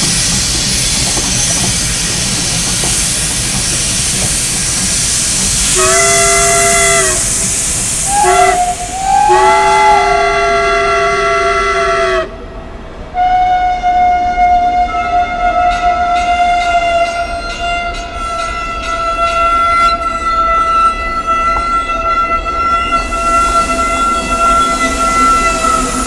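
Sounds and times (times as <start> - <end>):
steam hissing: 0.0 - 12.3, 16.3 - 26.0
locomotive chime whistle: 2.9 - 12.3, 13.2 - 26.0.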